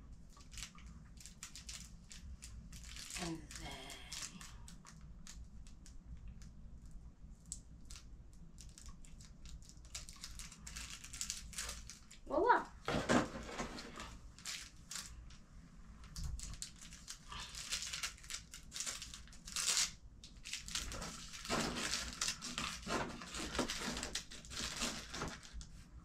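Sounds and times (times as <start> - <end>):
wrapper crinkling and rustling: 0.3 - 5.8, 7.8 - 15.4, 16.0 - 25.8.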